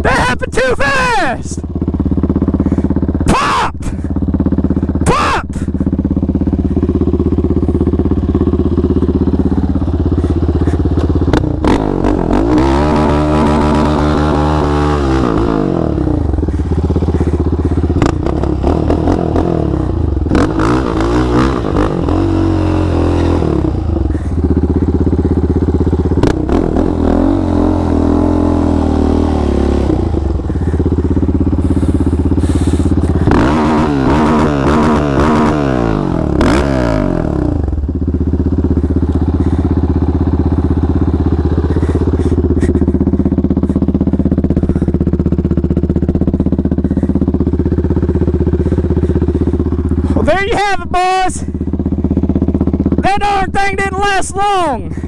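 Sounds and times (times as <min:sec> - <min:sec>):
quad engine idling and revving: 0:00.0 - 0:55.0.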